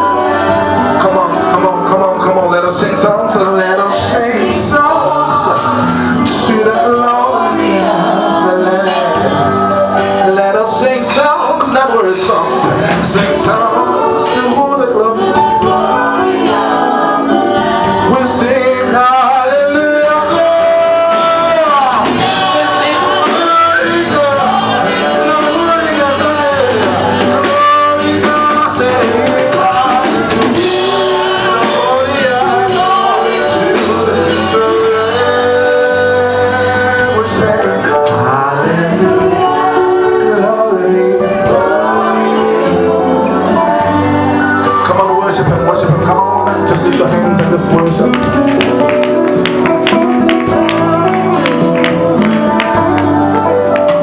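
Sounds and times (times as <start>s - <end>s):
gospel singing over a band: 0.0s - 54.0s.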